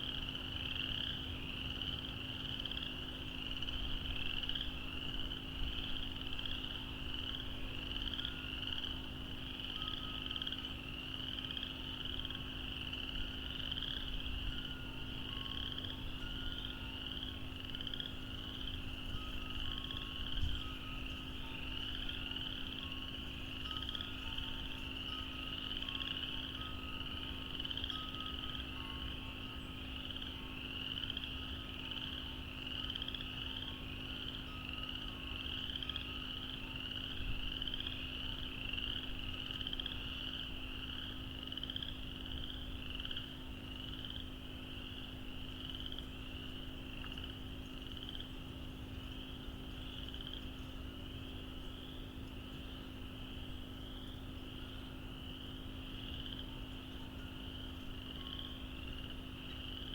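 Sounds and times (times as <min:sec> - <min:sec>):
chorus of frogs calling: 0:00.0 - 0:59.9
steady low hum: 0:00.0 - 0:59.9.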